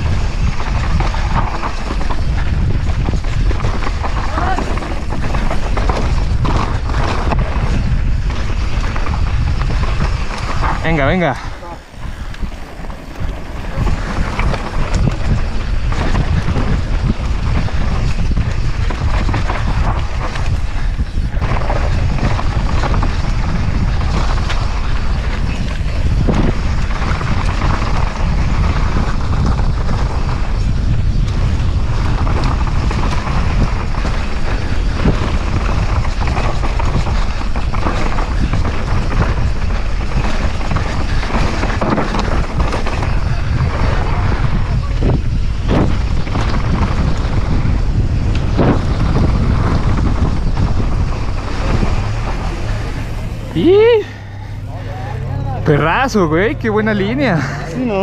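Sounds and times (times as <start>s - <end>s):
tyres crunching on loose dirt: 0.0s - 58.0s
wind rumbling on microphone: 0.0s - 58.0s.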